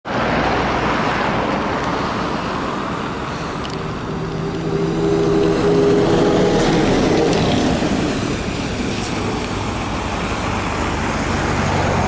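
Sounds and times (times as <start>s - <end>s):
tyres hissing on wet road: 0.1s - 12.0s.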